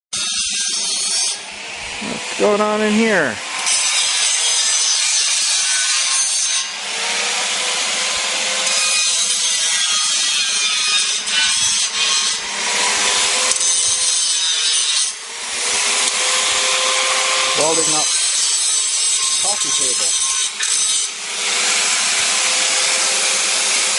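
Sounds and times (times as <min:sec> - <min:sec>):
angle grinder grinding steel: 0:00.2 - 0:23.9.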